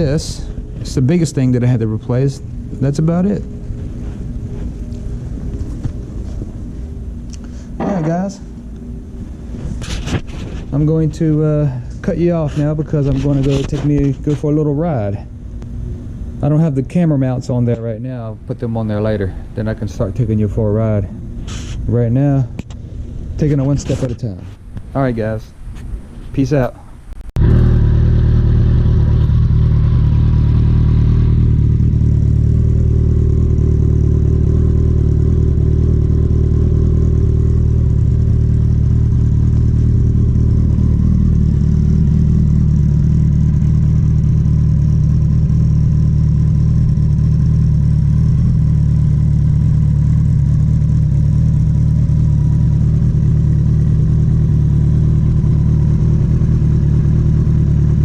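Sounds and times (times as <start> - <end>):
motorcycle engine idling: 0.0 - 9.6, 10.5 - 26.2, 27.4 - 58.0.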